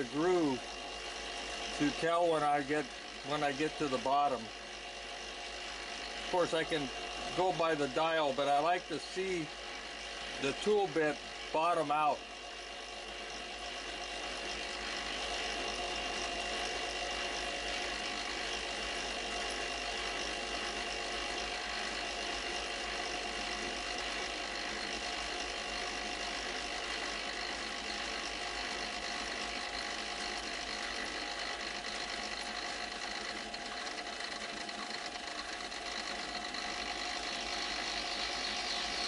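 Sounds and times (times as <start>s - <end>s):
lathe motor whine: 0.0s - 39.0s.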